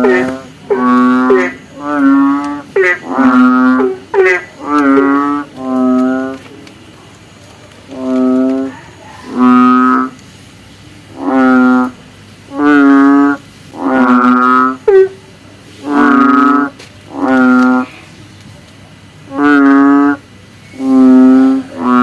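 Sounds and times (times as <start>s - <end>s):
frog calling: 0.0s - 10.2s, 11.1s - 18.2s, 19.2s - 22.0s.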